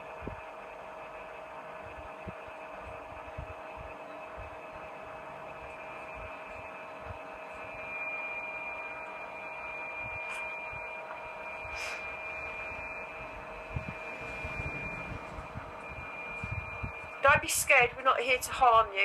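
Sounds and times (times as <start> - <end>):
electrical hum and hiss: 0.0 - 19.0
high steady whine: 0.0 - 19.0.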